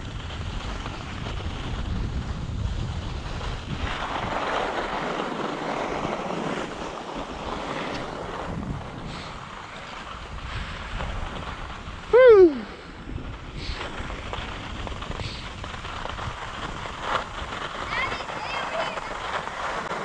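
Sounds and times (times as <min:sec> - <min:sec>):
skis sliding over snow: 0:00.0 - 0:20.0
wind on microphone: 0:00.0 - 0:20.0.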